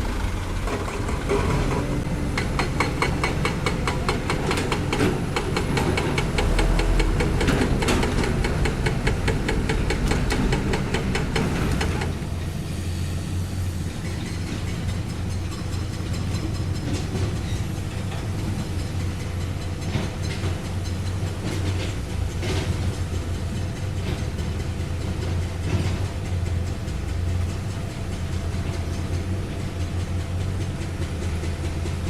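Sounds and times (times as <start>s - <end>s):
heavy diesel engine running: 0.0s - 32.0s
metallic clanks of steel tracks: 0.0s - 32.0s.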